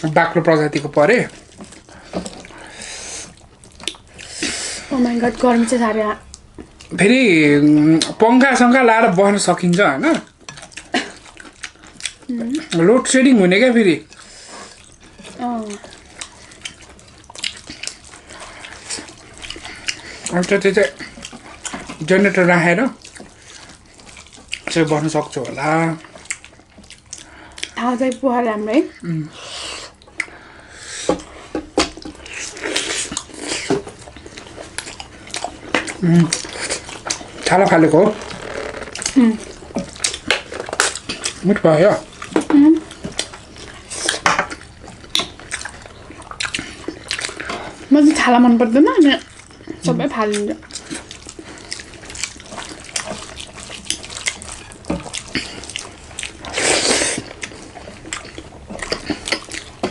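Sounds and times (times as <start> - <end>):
chewing and lip smacks: 0.7 - 5.5, 9.4 - 13.2, 14.0 - 28.2, 29.9 - 30.4, 31.1 - 47.9, 49.1 - 59.9.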